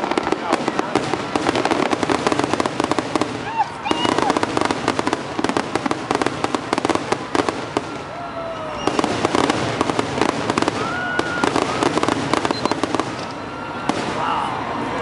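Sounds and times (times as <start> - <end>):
fireworks crackling and popping: 0.0 - 14.5.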